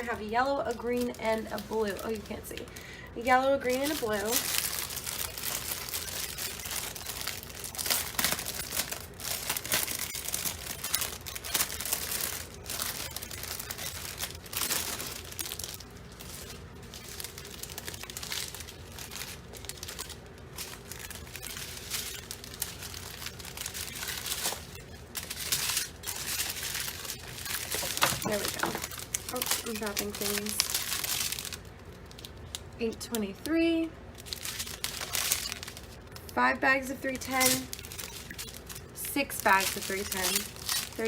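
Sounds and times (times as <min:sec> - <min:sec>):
plastic bags crinkling: 0:00.0 - 0:41.0.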